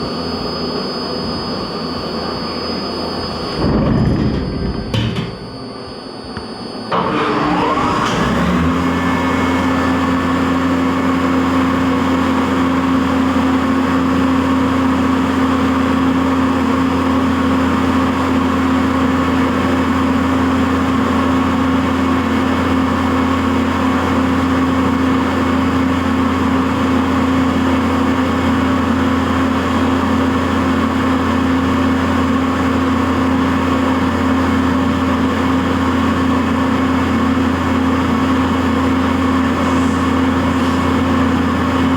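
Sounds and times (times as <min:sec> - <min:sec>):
milling machine spindle whine: 0:00.0 - 0:41.9.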